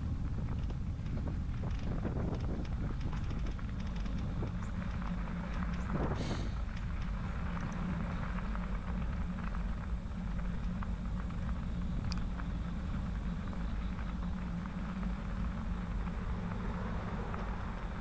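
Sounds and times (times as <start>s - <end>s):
grit ticks: 0.0s - 18.0s
wind and tyre rumble: 0.0s - 18.0s.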